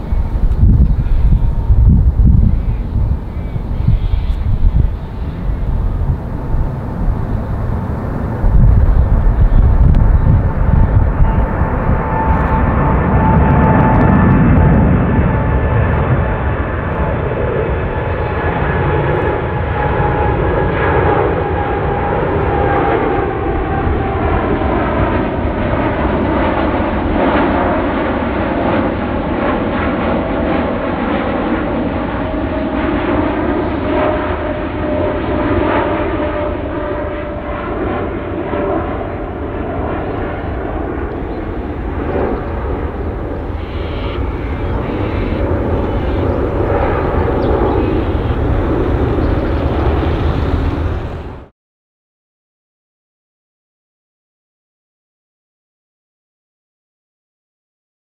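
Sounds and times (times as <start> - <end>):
jet engines rumbling and whining: 0.0 - 51.5.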